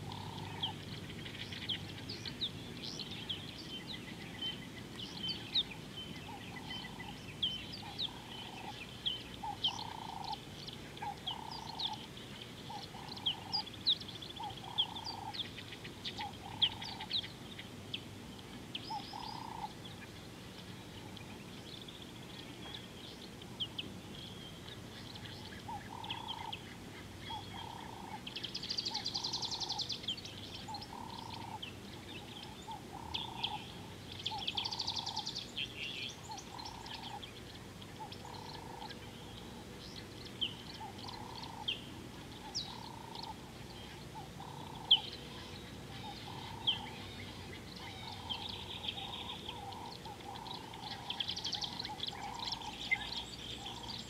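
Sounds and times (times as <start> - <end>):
bird chirps and trills: 0.0 - 54.0.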